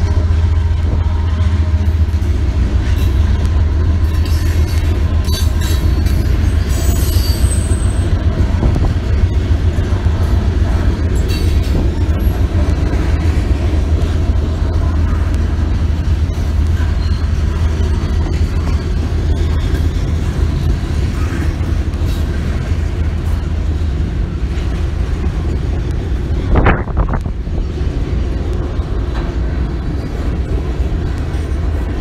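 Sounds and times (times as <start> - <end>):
wheel clacks on rails: 0.0 - 32.0.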